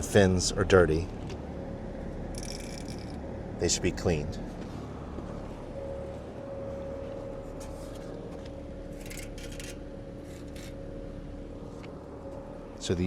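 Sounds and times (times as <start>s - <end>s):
heat pump units humming: 0.0s - 13.0s.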